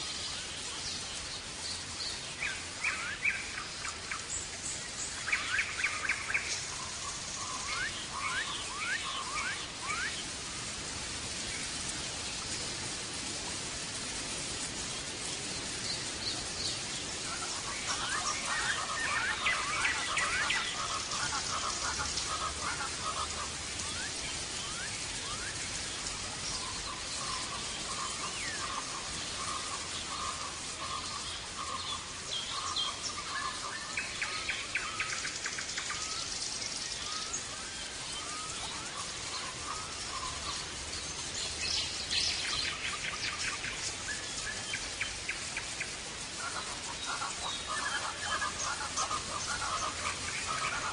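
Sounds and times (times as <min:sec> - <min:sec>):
steady hiss: 0:00.0 - 0:50.9.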